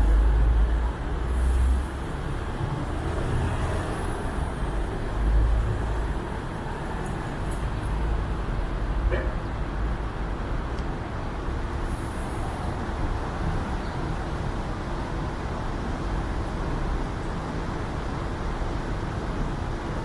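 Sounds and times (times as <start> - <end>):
low rumble of passing vehicles: 0.0 - 20.0.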